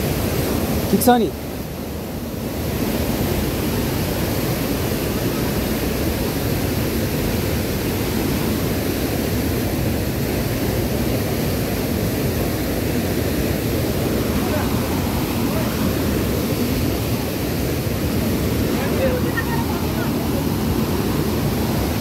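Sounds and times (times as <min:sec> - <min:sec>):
stream rushing over boulders: 0:00.0 - 0:22.0.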